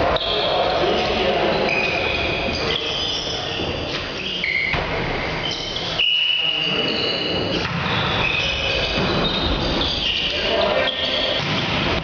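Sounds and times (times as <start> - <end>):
shoes squeaking on hall floor: 0.0 - 12.0
sports hall background: 0.0 - 12.0.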